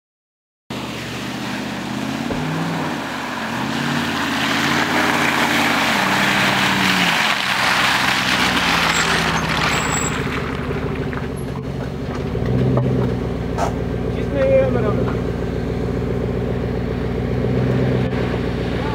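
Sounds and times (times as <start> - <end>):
suv engine revving: 0.7 - 18.9.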